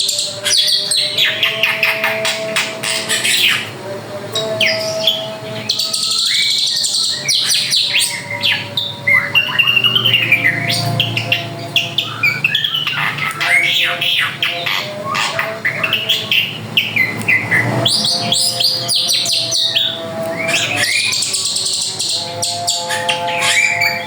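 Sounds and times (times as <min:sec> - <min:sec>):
drongo singing varied song: 0:00.0 - 0:24.0.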